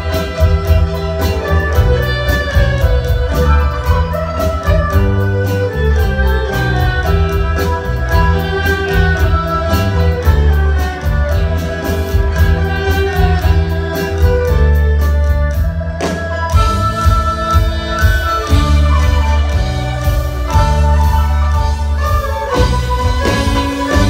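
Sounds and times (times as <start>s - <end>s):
bowed erhu melody: 0.0s - 24.0s
drum kit beat: 0.0s - 24.0s
held bass notes: 0.0s - 24.0s.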